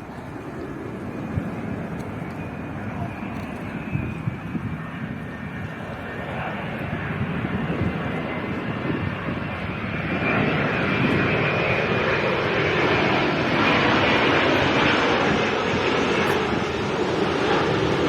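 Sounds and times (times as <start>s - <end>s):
jet airliner flying overhead: 0.0s - 18.0s.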